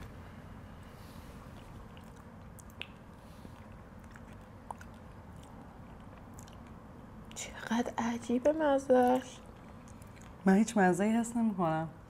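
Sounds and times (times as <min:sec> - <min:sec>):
quiet chewing and mouth sounds: 0:00.0 - 0:10.8
low steady hum: 0:00.0 - 0:12.0.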